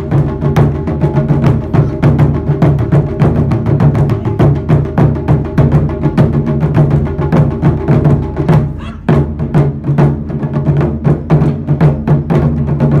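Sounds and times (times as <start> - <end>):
taiko drums playing: 0.0 - 13.0.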